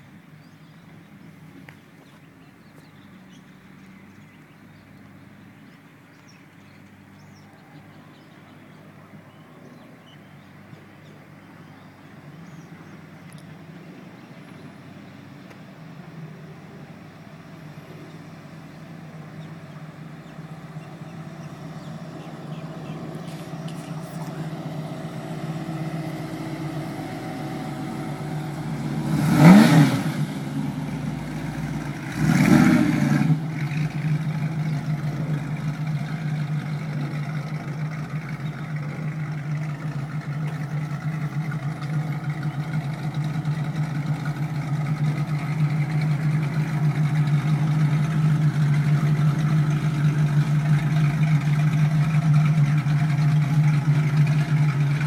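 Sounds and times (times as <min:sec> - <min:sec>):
car engine running and revving: 0:10.5 - 0:55.0.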